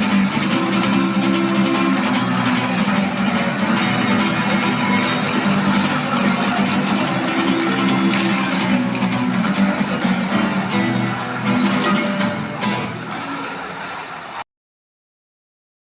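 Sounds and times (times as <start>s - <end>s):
acoustic guitar strumming: 0.0s - 14.4s.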